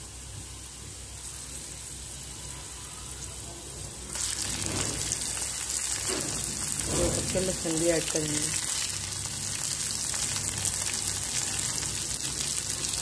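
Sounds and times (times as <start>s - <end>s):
onions sizzling in a frying pan: 0.0s - 13.0s
tomatoes sizzling in hot fat: 0.0s - 13.0s.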